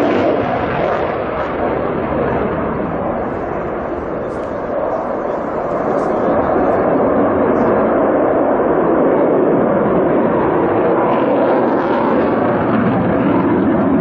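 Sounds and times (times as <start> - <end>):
fighter jet roaring by: 0.0 - 14.0.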